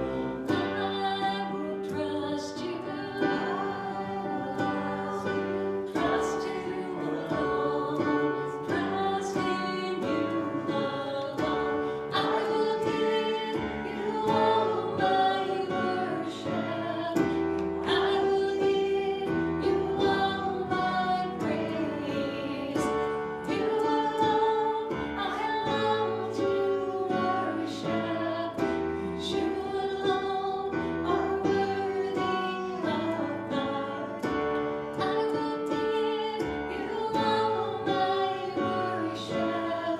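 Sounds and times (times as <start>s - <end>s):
instrumental accompaniment: 0.0s - 39.9s
voices singing a worship song: 0.0s - 39.9s.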